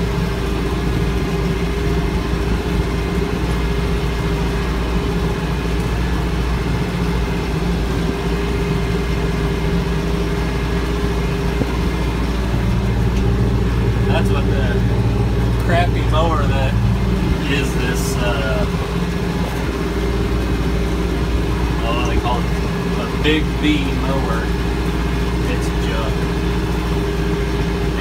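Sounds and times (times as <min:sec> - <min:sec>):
rotary mower cutting grass: 0:00.0 - 0:28.0
tractor diesel engine under load: 0:00.0 - 0:28.0.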